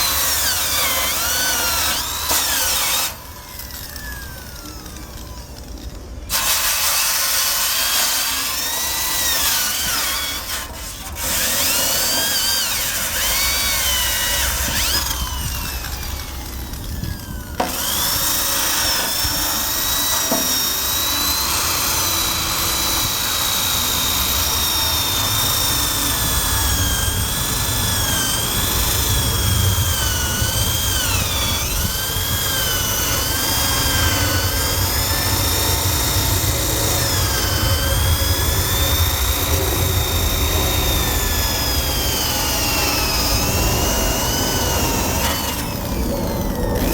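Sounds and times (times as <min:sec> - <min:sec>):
drill wire brush on steel: 0:00.0 - 0:46.9.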